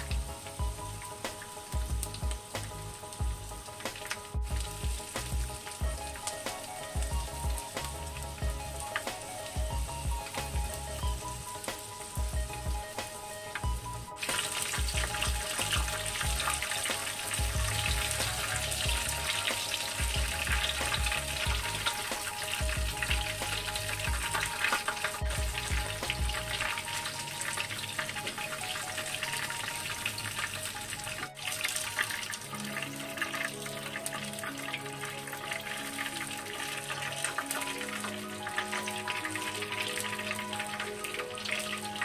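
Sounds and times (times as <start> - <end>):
food sizzling in hot oil: 0.0 - 42.0.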